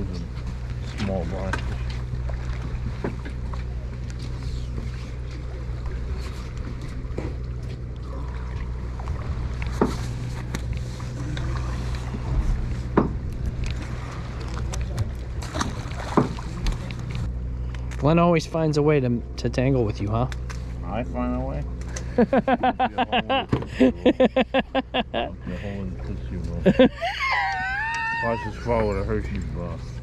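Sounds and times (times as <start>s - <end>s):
boat engine idling: 0.0s - 30.0s.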